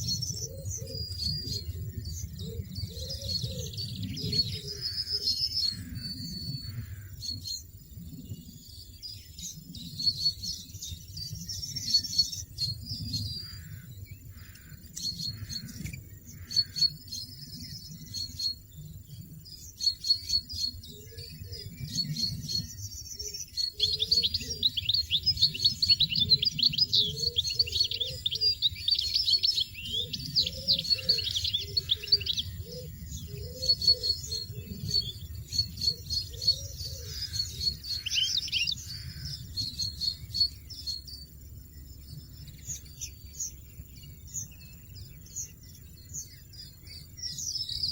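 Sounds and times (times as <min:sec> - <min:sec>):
finches chirping and twittering: 0:00.0 - 0:47.9.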